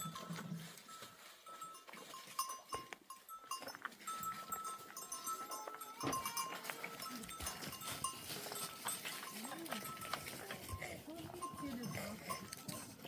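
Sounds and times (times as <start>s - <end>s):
neck bells clinking: 0.0s - 13.0s.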